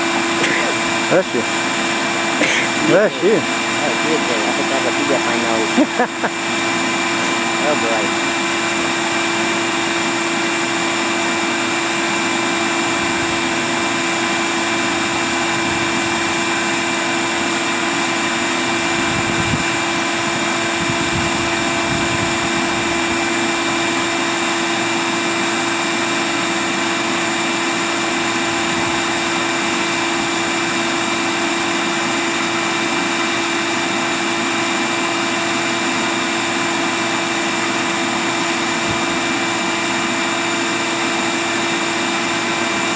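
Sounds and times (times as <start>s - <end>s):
vacuum motor whine: 0.0s - 42.9s.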